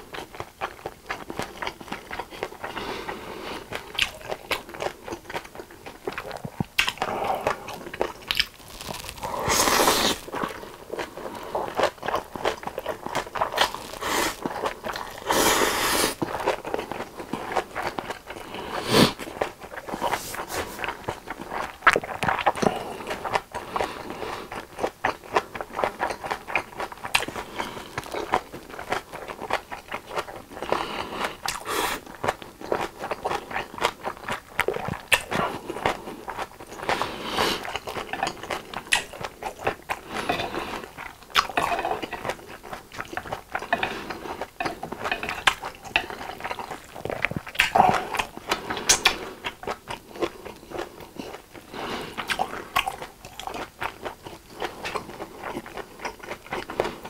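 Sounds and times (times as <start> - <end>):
chewing noodles: 0.0 - 57.0.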